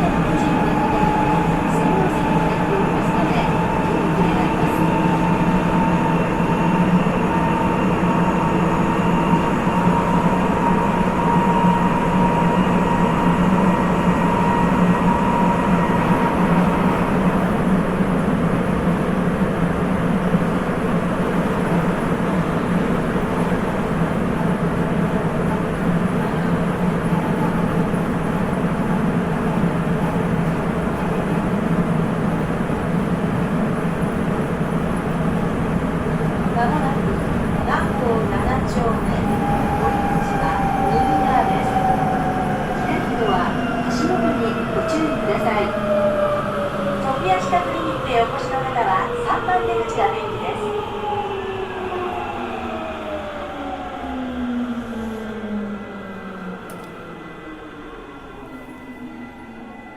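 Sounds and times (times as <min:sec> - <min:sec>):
train running rumble: 0:00.0 - 0:51.0.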